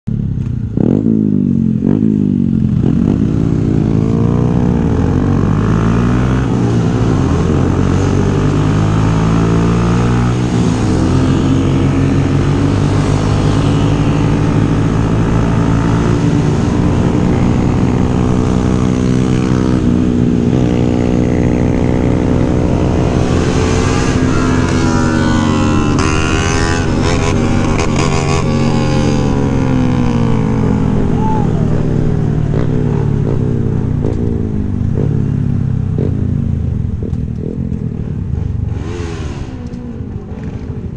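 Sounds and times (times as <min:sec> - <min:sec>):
motorcycle engine revving: 0:00.1 - 0:40.9.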